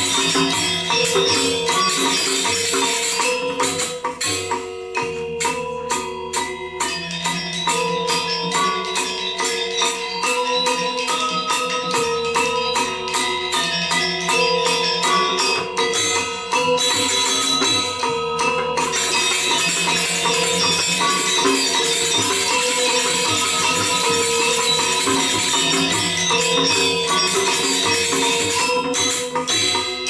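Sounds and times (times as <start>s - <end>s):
clashing cymbals: 0.0s - 30.0s
gamelan metallophones and gongs: 0.0s - 30.0s.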